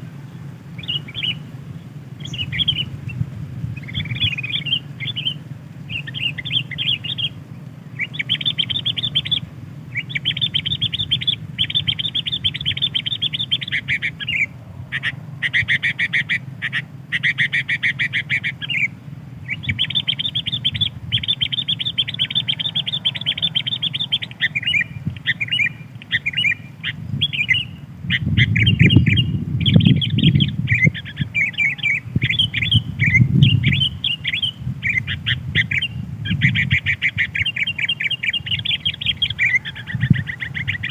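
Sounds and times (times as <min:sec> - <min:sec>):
bird chattering calls: 0:00.0 - 0:40.9
low rumbling noise: 0:00.0 - 0:40.9.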